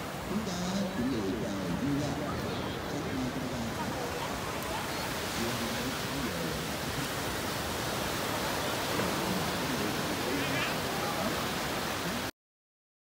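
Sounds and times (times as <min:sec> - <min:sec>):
small waves breaking on sand: 0:00.0 - 0:12.3
faint chatter of voices: 0:00.2 - 0:07.1, 0:08.0 - 0:12.3.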